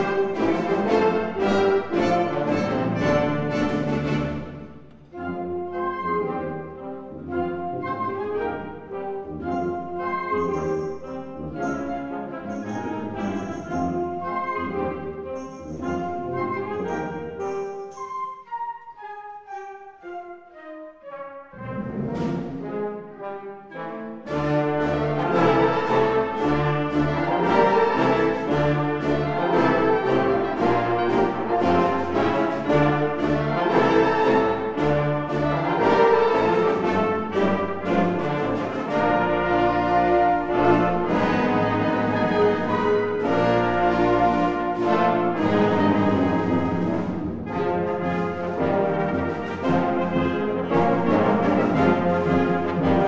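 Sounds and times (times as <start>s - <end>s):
wind band playing: 0.0s - 53.0s.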